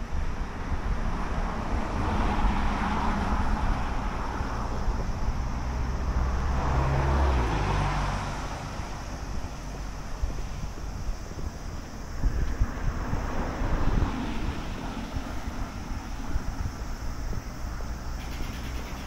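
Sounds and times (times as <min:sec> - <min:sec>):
low engine hum: 0:00.0 - 0:19.0
vehicles passing: 0:00.0 - 0:19.0
wind on microphone: 0:00.0 - 0:19.0.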